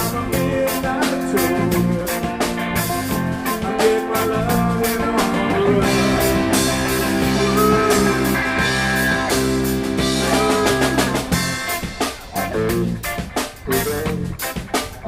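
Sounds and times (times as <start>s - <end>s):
bass: 0.0s - 15.0s
drums: 0.0s - 15.0s
electric guitar: 0.0s - 15.0s.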